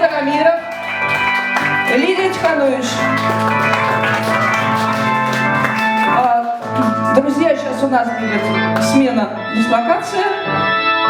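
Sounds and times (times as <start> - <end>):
sustained keyboard chords: 0.0 - 11.0.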